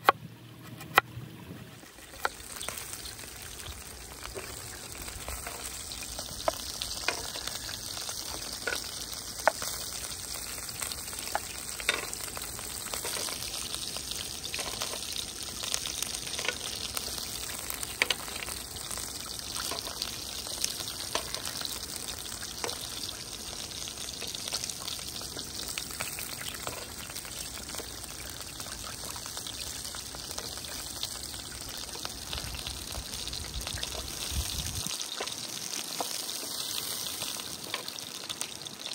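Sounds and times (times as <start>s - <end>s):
beef sizzling on grill pan: 1.7s - 38.9s.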